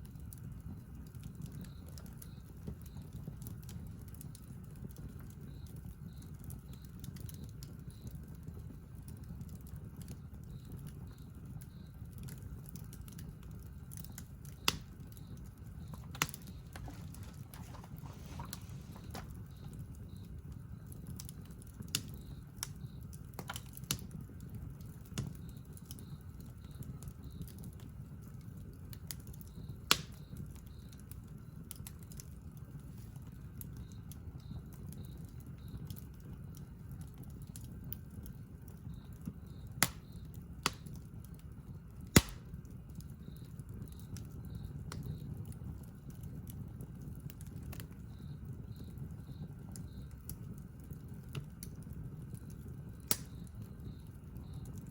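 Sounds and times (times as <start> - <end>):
campfire crackling: 0.0 - 54.9.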